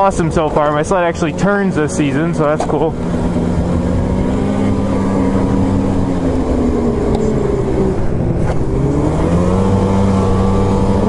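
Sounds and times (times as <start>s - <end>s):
snowmobile engine cruising: 0.0s - 11.0s.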